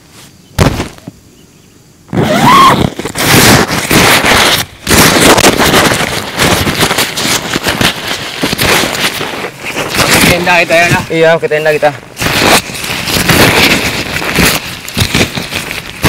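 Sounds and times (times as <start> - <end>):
tent fabric rustling and crinkling: 0.0 - 1.1, 2.1 - 16.0.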